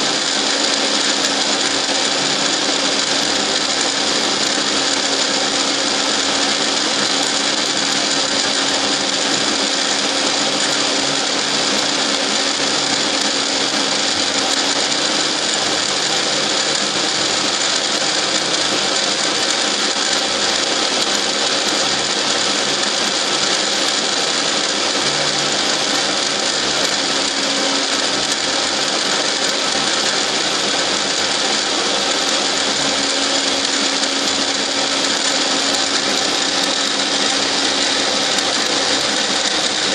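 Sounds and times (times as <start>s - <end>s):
milling machine humming: 0.0s - 39.9s.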